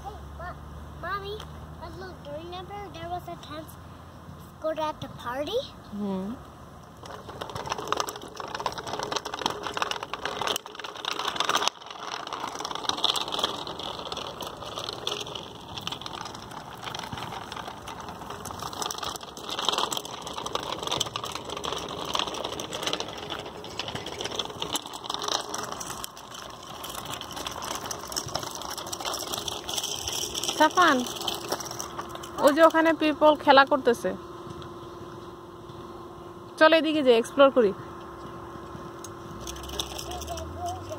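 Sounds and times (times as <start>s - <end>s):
bicycle rattling over gravel: 6.8s - 35.4s, 36.6s - 40.9s.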